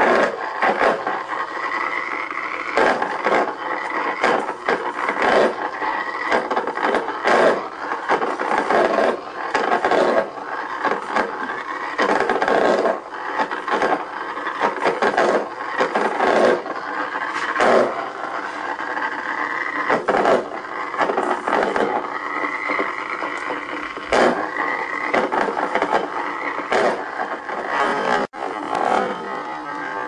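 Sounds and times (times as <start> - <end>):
spark gap crackling: 0.0 - 30.0.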